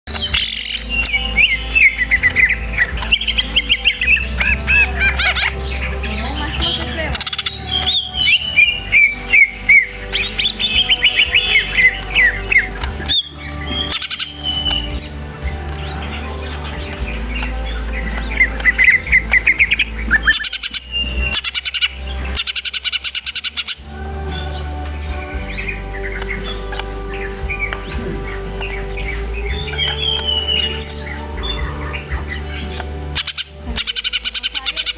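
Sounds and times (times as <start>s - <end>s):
young songbird chirping: 0.1s - 34.9s.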